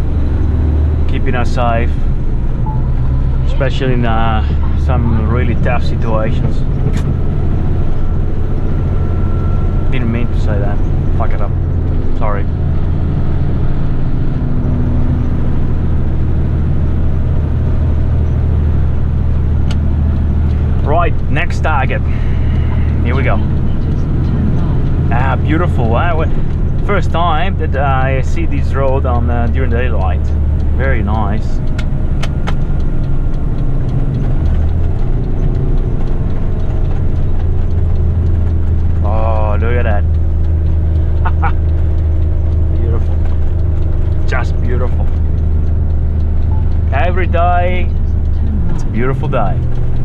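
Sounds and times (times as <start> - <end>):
truck engine droning: 0.0 - 50.0.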